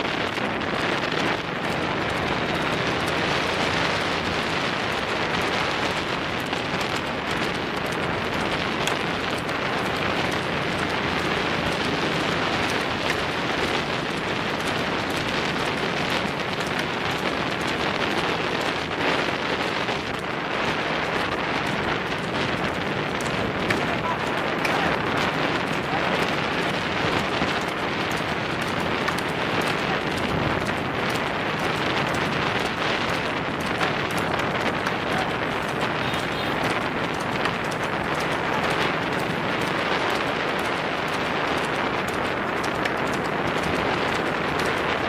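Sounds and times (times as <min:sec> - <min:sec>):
wheels rolling on asphalt: 0:00.0 - 0:45.0
wind on microphone: 0:00.0 - 0:45.0.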